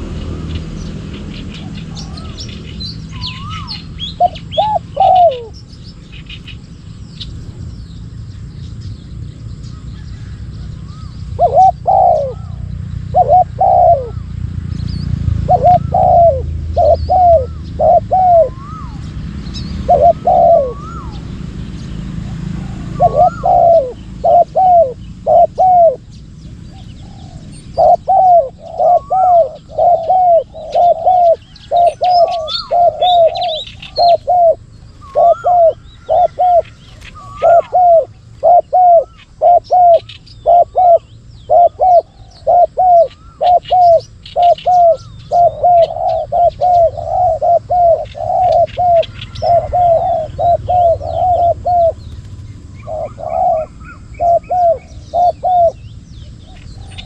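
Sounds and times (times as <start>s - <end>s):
doves cooing: 0.0s - 7.6s, 10.0s - 57.0s
small birds chirping: 0.0s - 57.0s.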